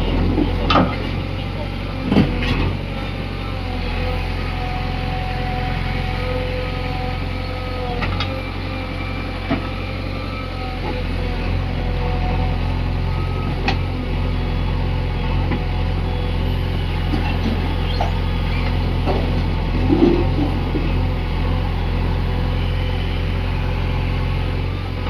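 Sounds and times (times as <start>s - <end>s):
heavy diesel engines running: 0.0s - 25.0s.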